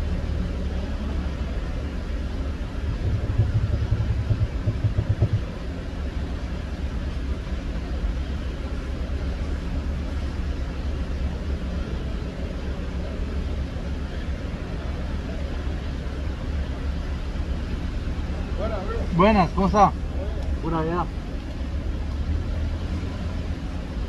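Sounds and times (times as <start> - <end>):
van engine rumbling: 0.0 - 24.0.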